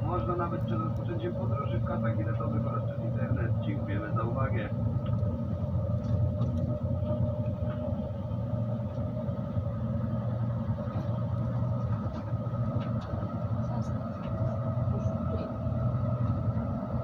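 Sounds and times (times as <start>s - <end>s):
train rumbling: 0.0s - 17.0s
train whine: 0.0s - 17.0s.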